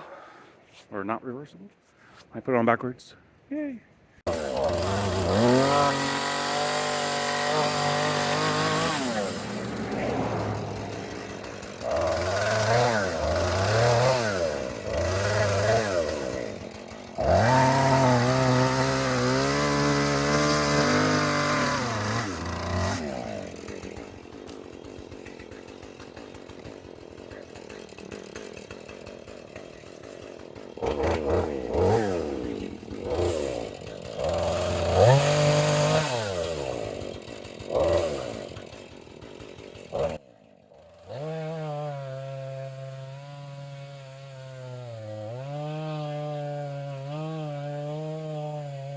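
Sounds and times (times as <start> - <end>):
chainsaw engine revving: 4.2 - 48.9.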